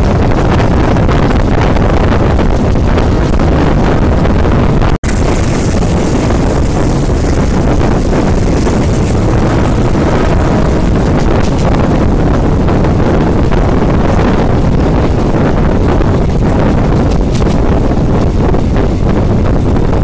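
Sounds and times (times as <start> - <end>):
moving train rumble: 0.0 - 20.0
wind buffeting microphone: 0.0 - 20.0.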